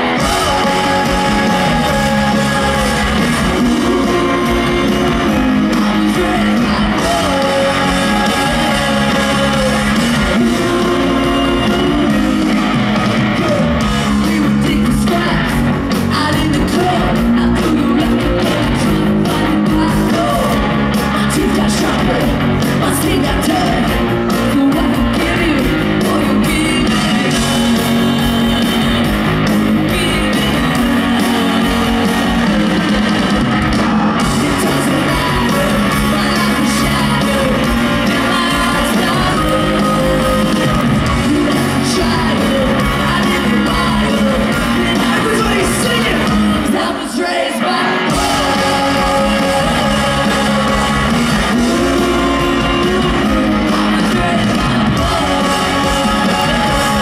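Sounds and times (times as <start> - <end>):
live ska-punk band: 0.0 - 57.0
woman singing lead: 0.0 - 57.0.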